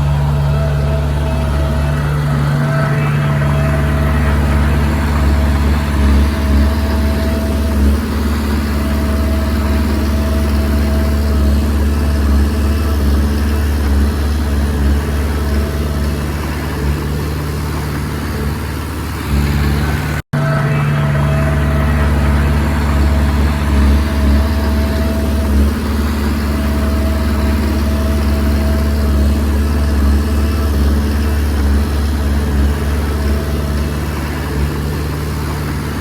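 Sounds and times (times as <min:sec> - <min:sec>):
bulldozer diesel engine droning: 0:00.0 - 0:36.0.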